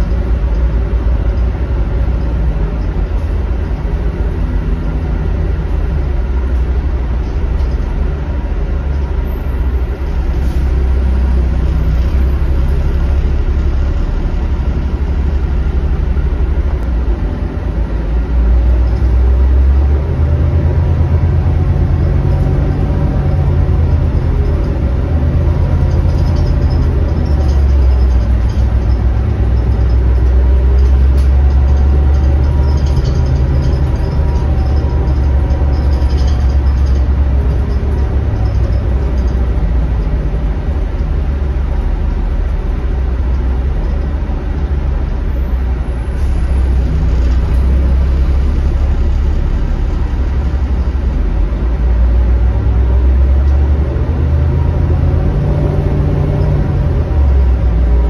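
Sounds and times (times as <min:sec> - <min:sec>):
bus diesel engine drone: 0:00.0 - 0:58.0
road noise: 0:00.0 - 0:58.0.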